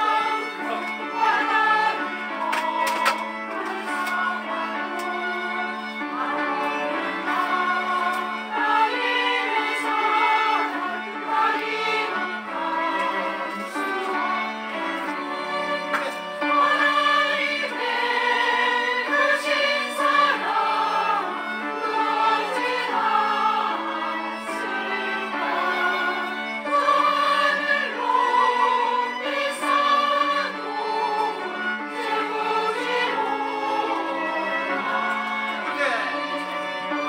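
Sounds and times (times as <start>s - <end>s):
choir singing a hymn: 0.0s - 37.0s.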